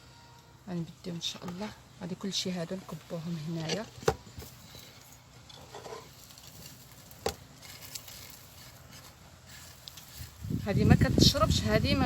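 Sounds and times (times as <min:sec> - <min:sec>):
faint rustling of herbs: 0:00.6 - 0:12.0.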